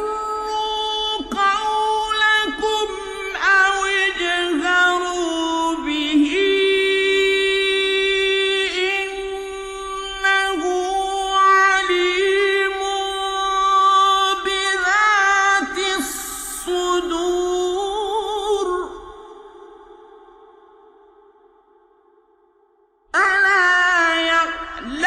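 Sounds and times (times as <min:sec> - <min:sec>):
man chanting in high voice: 0:00.0 - 0:22.3, 0:23.1 - 0:25.0.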